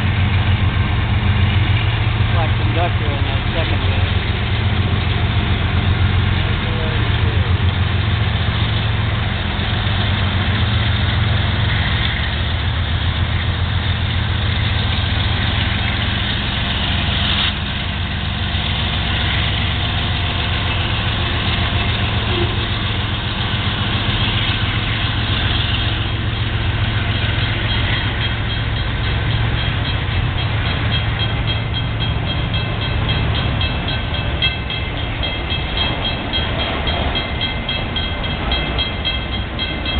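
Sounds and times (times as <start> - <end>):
diesel locomotives rumbling past: 0.0 - 39.9
freight cars wheel and rail noise: 0.0 - 39.9.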